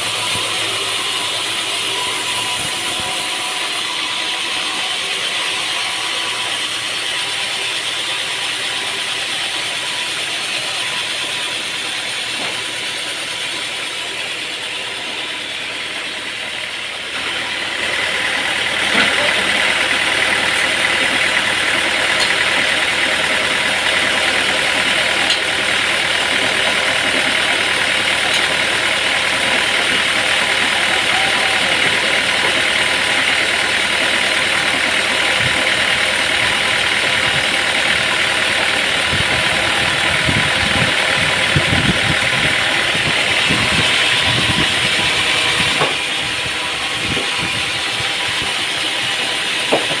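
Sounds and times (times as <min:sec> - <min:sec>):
machinery engine running: 0:00.0 - 0:50.0.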